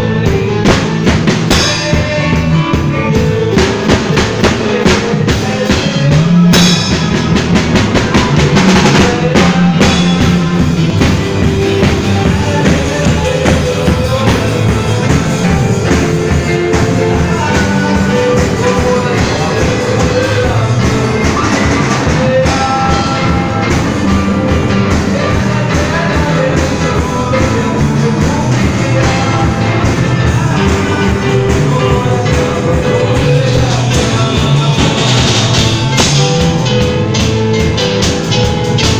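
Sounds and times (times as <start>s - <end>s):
band playing loud music: 0.0s - 38.9s.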